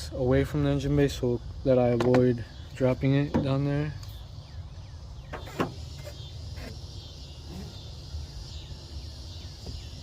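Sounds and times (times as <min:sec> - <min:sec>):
insect chirring: 0:00.0 - 0:10.0
steady low hum: 0:00.0 - 0:10.0.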